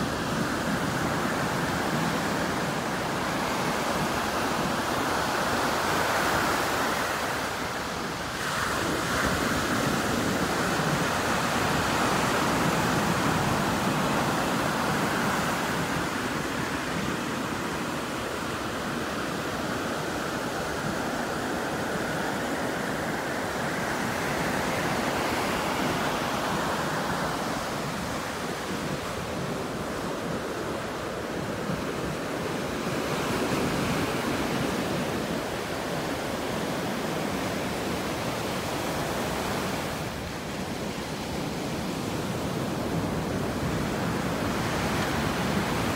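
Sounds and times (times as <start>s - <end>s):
ocean surf breaking: 0.0s - 45.9s.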